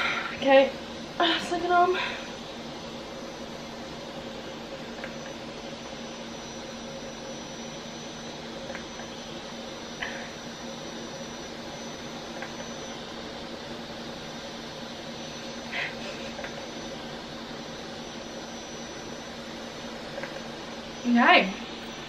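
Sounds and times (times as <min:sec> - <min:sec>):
device fan whirring with high whine: 0:00.0 - 0:22.0.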